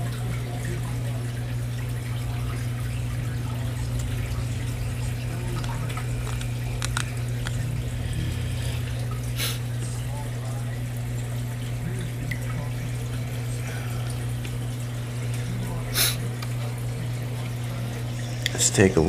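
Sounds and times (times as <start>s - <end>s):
aquarium equipment humming: 0.0s - 19.0s
water trickling: 0.0s - 19.0s.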